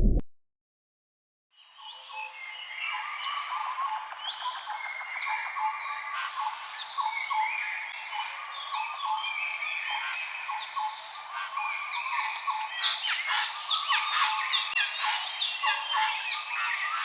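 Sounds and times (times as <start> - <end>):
small birds chirping and singing: 1.6 - 17.0.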